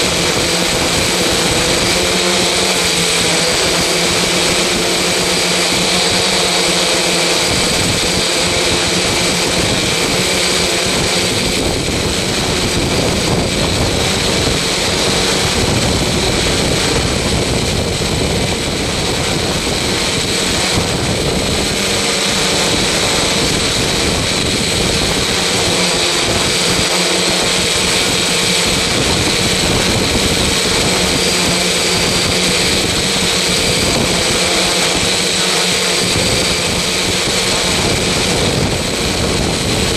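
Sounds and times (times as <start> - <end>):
machine drone with high tones: 0.0 - 39.9.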